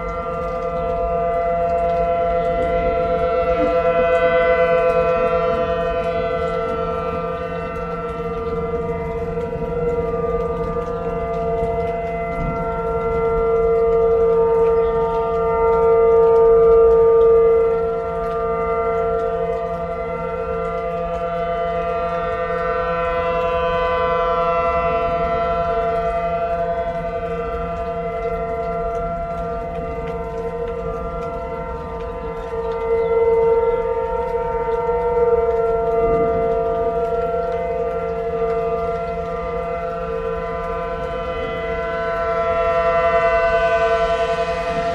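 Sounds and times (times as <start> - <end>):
outdoor warning siren: 0.0 - 44.9.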